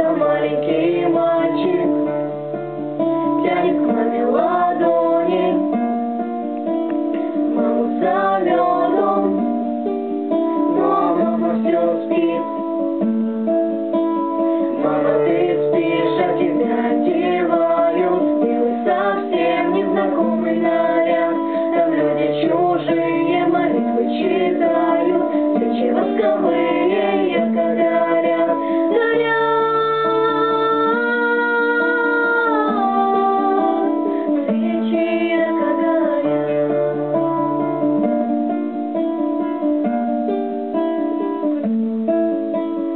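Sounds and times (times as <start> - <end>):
plucked guitar: 0.0 - 42.9.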